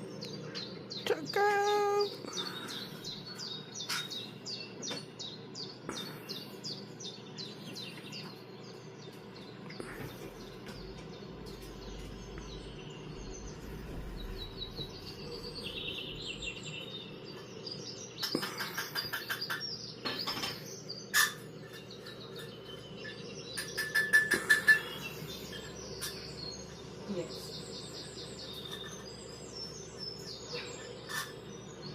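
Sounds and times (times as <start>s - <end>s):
birds chirping from speakers: 0.0s - 31.9s.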